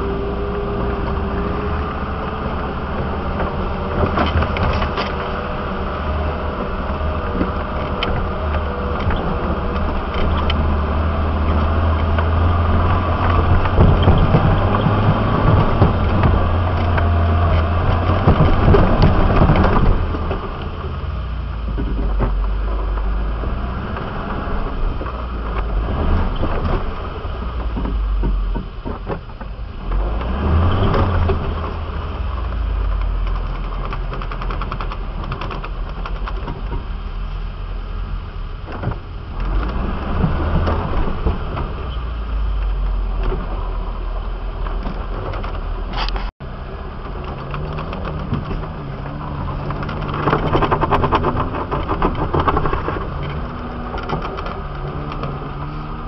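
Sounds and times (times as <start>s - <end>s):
vehicle engine running at low speed: 0.0s - 56.0s
small clicks and rattles: 0.9s - 23.2s, 23.9s - 37.4s, 38.6s - 56.0s.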